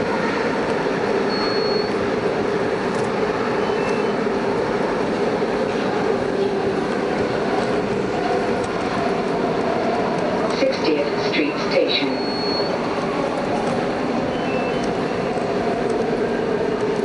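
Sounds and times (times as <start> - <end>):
constant hum: 0.0 - 17.0
train wheels rumbling on rail: 0.0 - 17.0.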